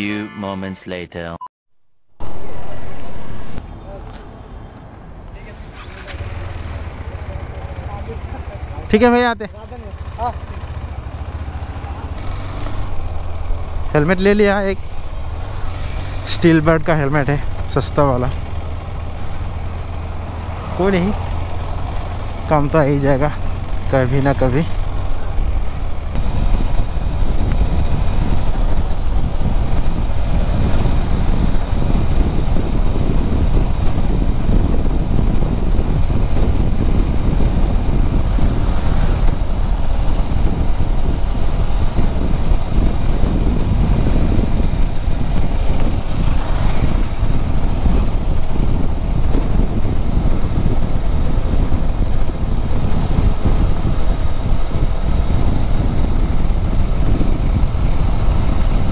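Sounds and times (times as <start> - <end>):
wind rushing over microphone: 2.2 - 58.9
motorcycle engine running: 5.8 - 58.9.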